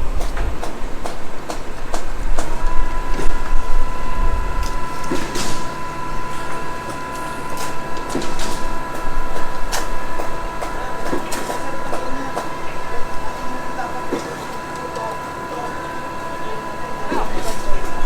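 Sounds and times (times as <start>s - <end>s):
steady high whine: 0.0s - 18.0s.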